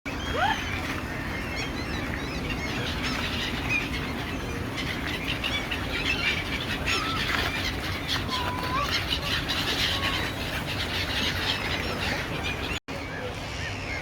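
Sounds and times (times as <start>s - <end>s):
birds chirping and calling: 0.1s - 14.0s.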